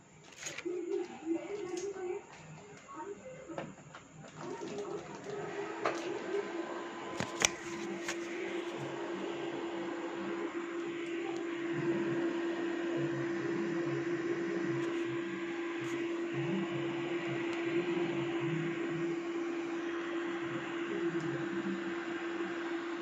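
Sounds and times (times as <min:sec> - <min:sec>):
small fan motor humming: 0:00.0 - 0:23.0.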